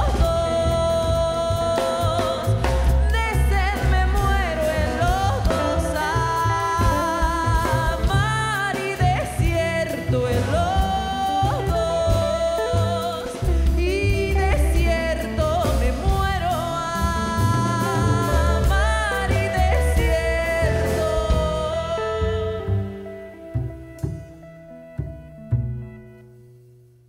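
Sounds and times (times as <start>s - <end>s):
wordless sung melody: 0.0s - 26.2s
live band playing: 0.0s - 26.7s.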